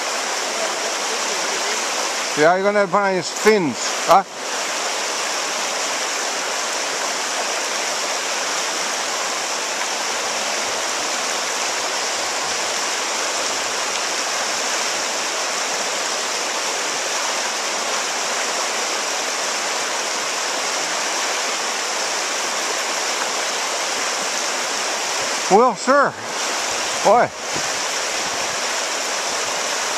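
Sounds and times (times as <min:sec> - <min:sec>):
river rapids rushing: 0:00.0 - 0:29.9.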